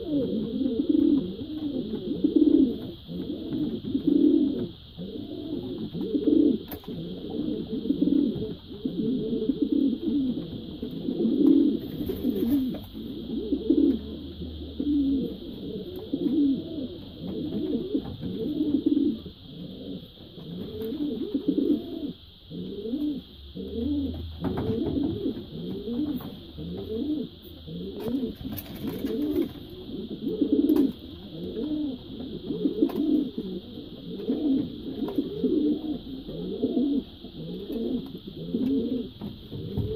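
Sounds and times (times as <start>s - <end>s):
pigeon cooing: 0.0s - 39.9s.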